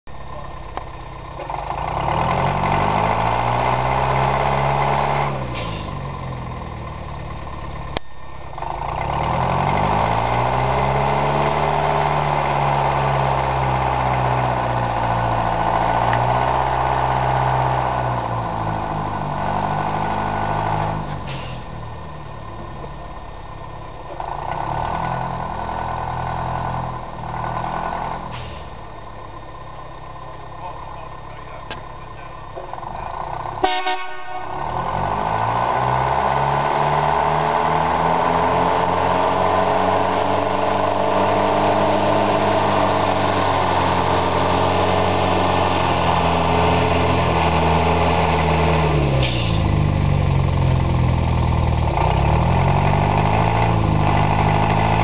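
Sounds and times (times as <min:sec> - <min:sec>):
locomotive engine working hard: 0:00.1 - 0:55.0.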